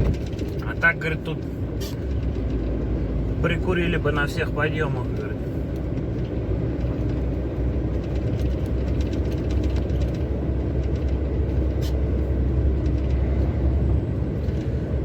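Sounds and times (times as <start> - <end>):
faint rattles and ticks: 0.0 - 14.8
truck engine and road drone: 0.0 - 15.0.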